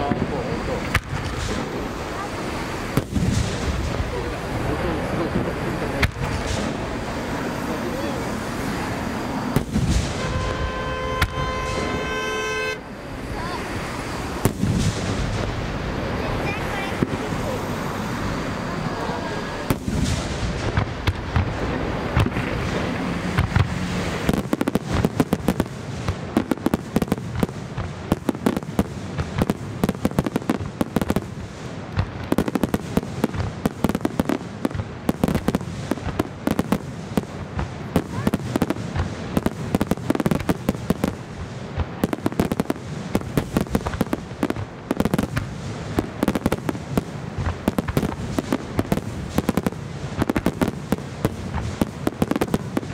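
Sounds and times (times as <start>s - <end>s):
firework bangs and crackles: 0.0s - 52.9s.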